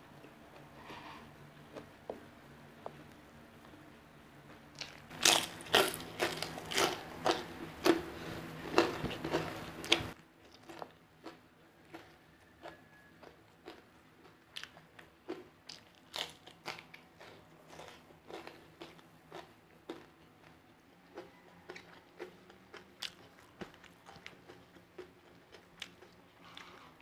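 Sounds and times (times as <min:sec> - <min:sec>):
person chewing crisp food: 0:04.7 - 0:27.0.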